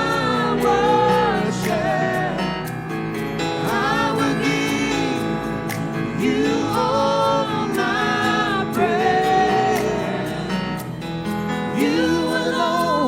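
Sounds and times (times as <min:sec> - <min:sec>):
voices singing long notes: 0:00.0 - 0:10.9
instrumental chords: 0:00.0 - 0:13.0.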